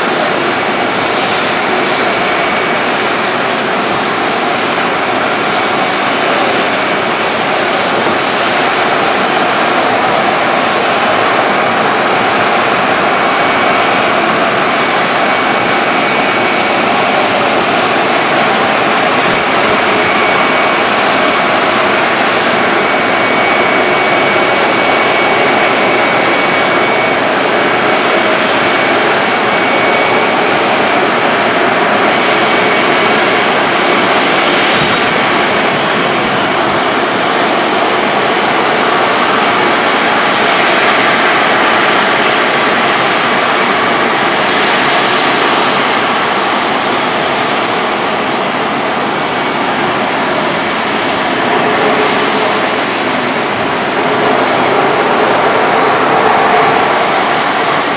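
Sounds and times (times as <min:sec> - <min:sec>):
faint high whine: 0:00.0 - 0:57.9
jet engines roaring: 0:00.0 - 0:57.9.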